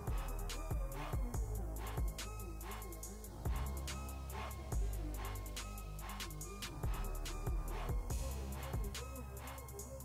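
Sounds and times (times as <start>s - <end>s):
music with drum beat and melody: 0.0s - 10.0s.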